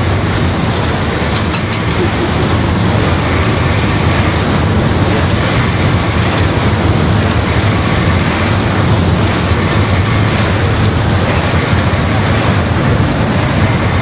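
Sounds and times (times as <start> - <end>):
paddle wheel churning water: 0.0 - 14.0.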